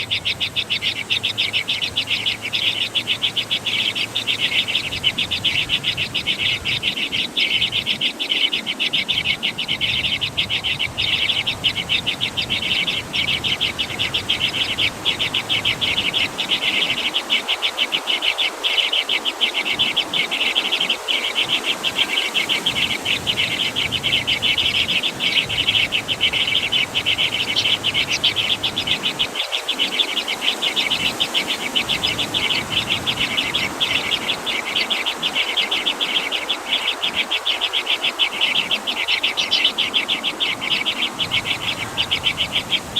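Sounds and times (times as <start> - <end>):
insect chorus trilling: 0.0 - 42.9.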